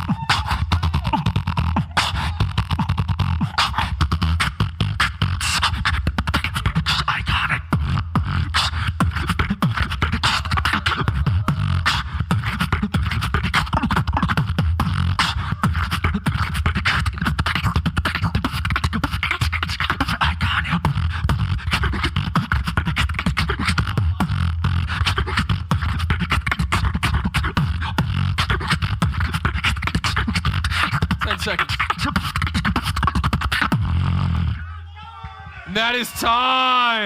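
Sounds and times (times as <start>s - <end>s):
continuous deep bass: 0.0s - 34.6s
person beatboxing: 0.0s - 34.6s.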